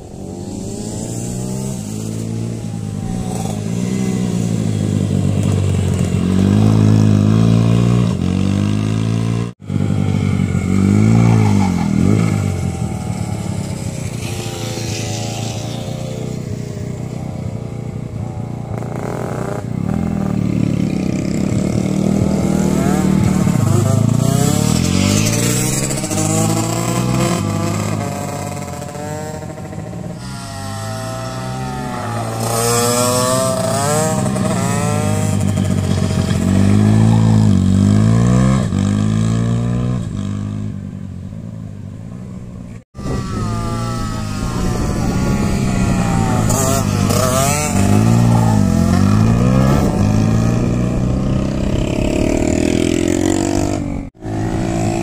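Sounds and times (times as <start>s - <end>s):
motorcycle engine revving: 0.0s - 41.6s, 42.7s - 55.0s.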